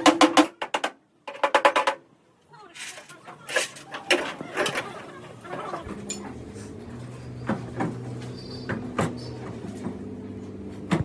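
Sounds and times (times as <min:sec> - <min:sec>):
steady mechanical hum: 0:02.0 - 0:11.0.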